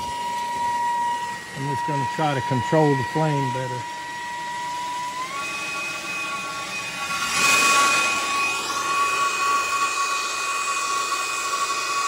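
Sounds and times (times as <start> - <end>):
torch flame hissing and whistling: 0.0 - 12.0.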